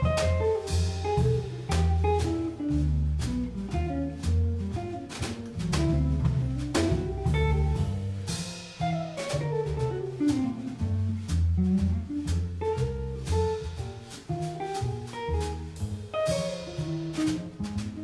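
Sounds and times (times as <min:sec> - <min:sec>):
double bass: 0:00.0 - 0:18.0
drum kit cymbal strokes: 0:00.0 - 0:18.0
electric guitar melody: 0:00.0 - 0:18.0.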